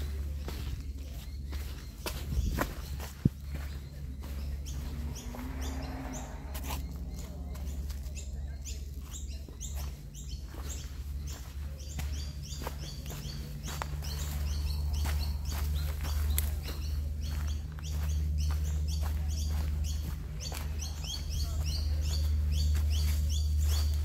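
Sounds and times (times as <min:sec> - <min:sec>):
footsteps on dirt and rock: 0:00.0 - 0:24.0
small birds chirping: 0:00.0 - 0:24.0
steady low rumble: 0:00.0 - 0:24.0.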